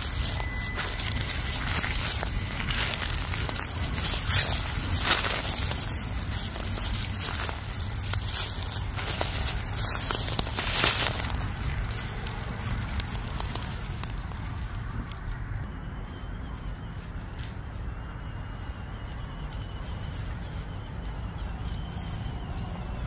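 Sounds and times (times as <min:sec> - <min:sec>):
low rumble: 0:00.0 - 0:23.0
tyres crunching on gravel: 0:00.0 - 0:23.0.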